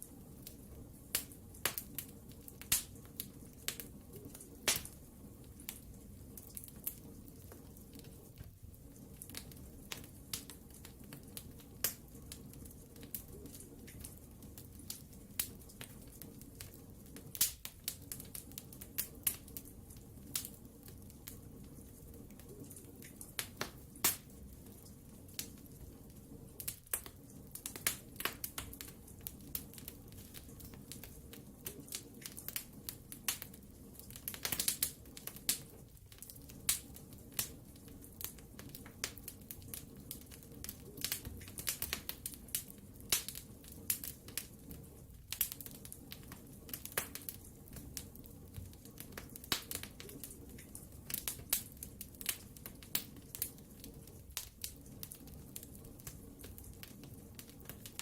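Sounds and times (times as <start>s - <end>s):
flames hissing: 0.0s - 58.0s
wood fire crackling and popping: 0.0s - 58.0s.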